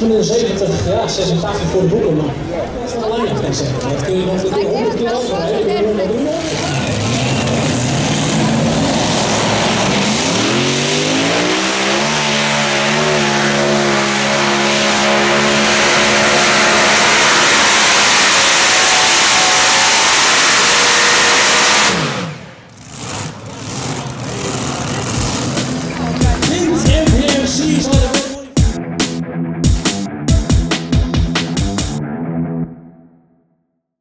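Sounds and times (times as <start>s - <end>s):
pulling tractor engines roaring: 0.0s - 28.6s.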